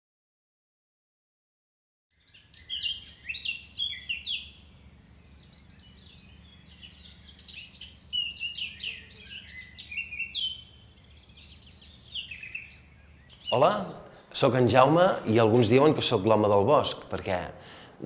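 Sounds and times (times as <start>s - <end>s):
songbirds chirping and singing: 2.1s - 17.4s.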